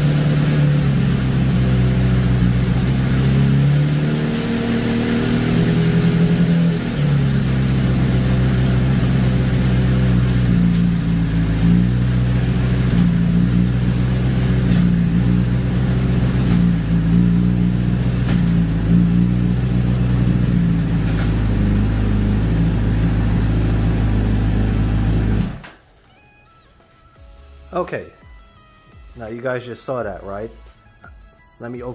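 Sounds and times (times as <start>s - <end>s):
motorcycle engine running: 0.0s - 25.6s.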